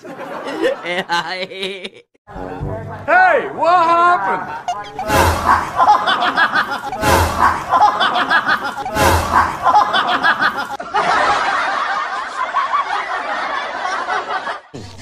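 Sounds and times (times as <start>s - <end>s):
laughter in choppy bursts: 0.0s - 2.2s, 4.7s - 14.8s.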